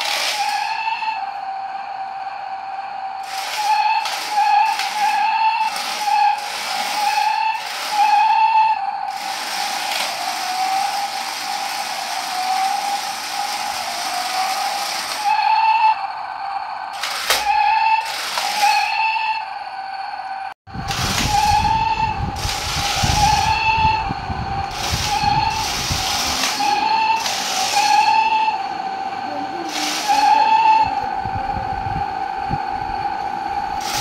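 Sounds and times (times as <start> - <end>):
toy car electric motors whining: 0.0 - 34.0.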